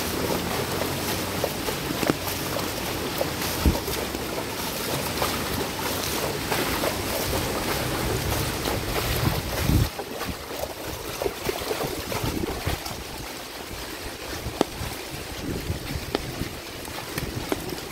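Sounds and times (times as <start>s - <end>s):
floodwater running: 0.0s - 17.9s
rain falling: 0.0s - 17.9s
wind buffeting microphone: 0.0s - 17.9s.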